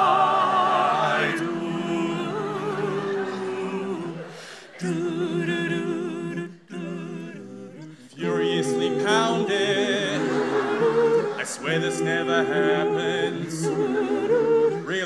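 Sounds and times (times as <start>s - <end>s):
a cappella group singing chords: 0.0s - 15.0s.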